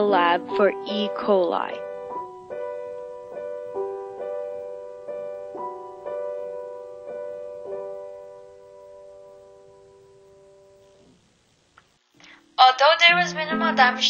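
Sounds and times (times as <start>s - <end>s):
soft piano music: 0.0s - 11.1s, 13.0s - 14.0s.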